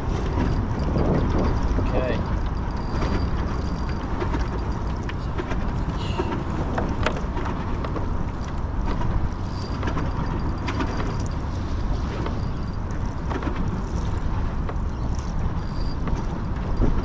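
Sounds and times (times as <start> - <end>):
water slapping on kayak hull: 0.0 - 17.0
wind rumbling on microphone: 0.0 - 17.0.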